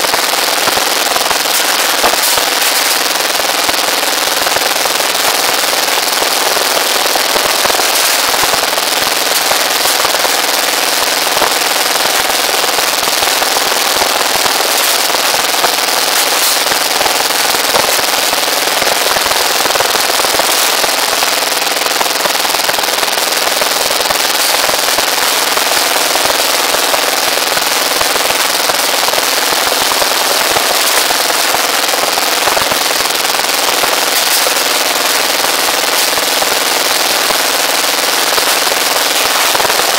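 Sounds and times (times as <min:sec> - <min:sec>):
rebar bending machine clattering: 0:00.0 - 0:39.9.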